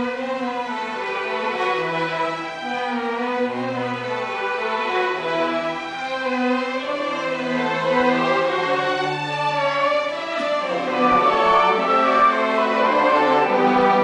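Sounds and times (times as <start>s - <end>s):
orchestra playing strings: 0.0s - 14.0s.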